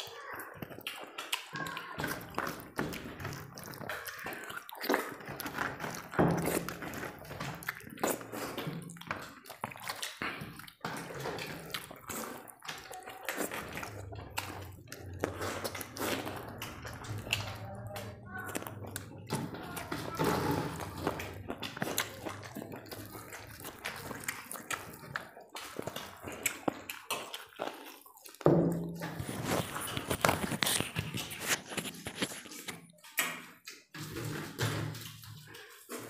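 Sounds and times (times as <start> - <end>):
hands mashing food squelching: 0.0 - 36.0
mouths chewing: 0.0 - 36.0.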